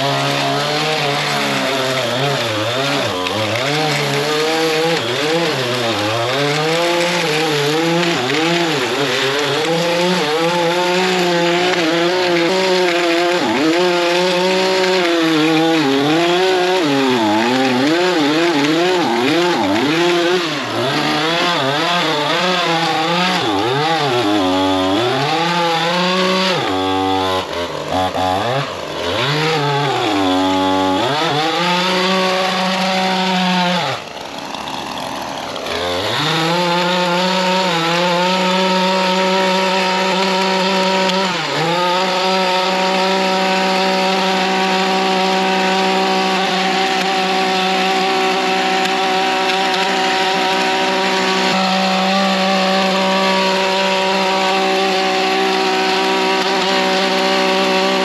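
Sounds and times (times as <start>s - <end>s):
lawn edger engine revving: 0.0s - 58.0s.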